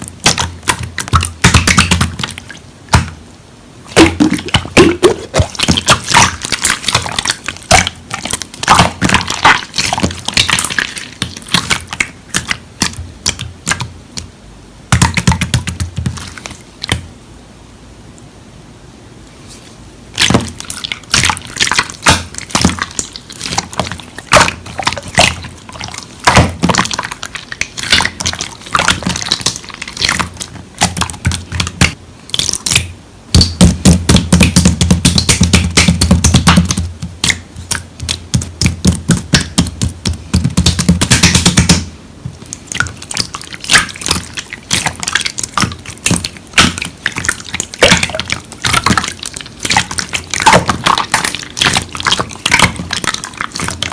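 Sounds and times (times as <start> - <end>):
slime squelching: 0.0 - 3.2, 3.9 - 14.3, 14.9 - 17.1, 19.4 - 53.9.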